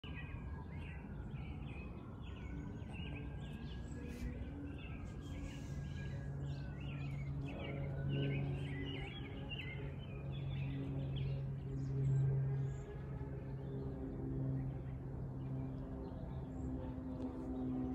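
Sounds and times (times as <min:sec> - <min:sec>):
propeller aircraft drone: 0:00.0 - 0:17.9.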